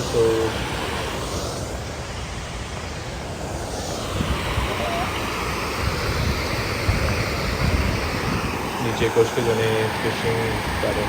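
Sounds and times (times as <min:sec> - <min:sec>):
flowing river water: 0:00.0 - 0:11.0
wind buffeting microphone: 0:00.0 - 0:11.0.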